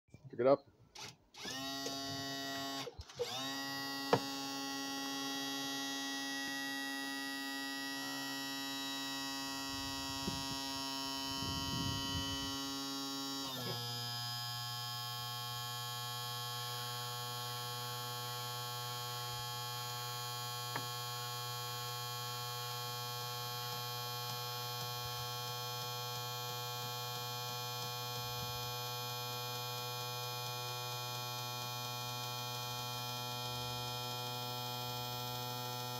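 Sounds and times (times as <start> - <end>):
electric motor humming and whining: 1.4 - 35.9.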